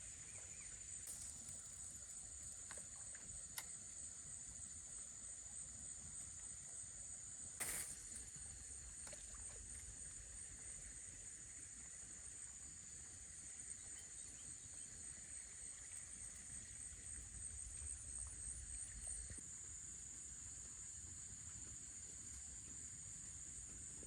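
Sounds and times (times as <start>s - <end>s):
insects chirring: 0.0s - 19.4s.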